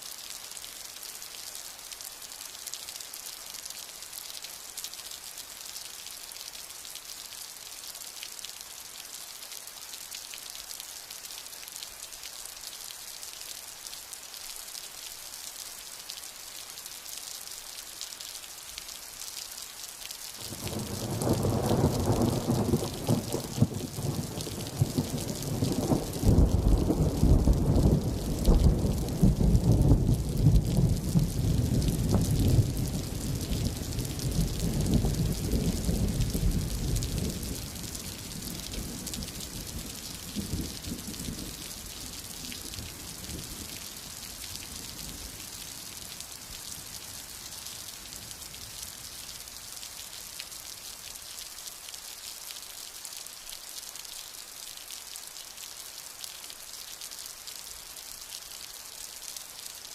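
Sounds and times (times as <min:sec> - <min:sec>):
rain hissing: 0:00.0 - 0:59.9.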